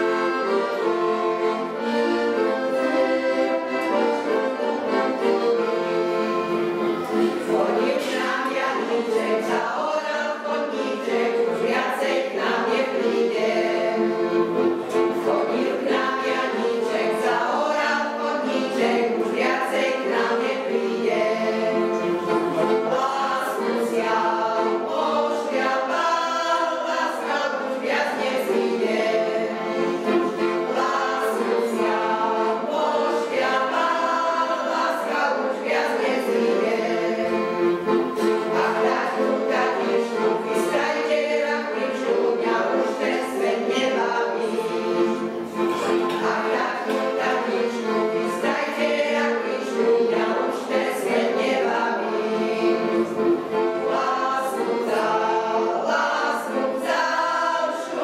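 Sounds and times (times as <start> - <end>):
folk choir singing: 0.0 - 58.0.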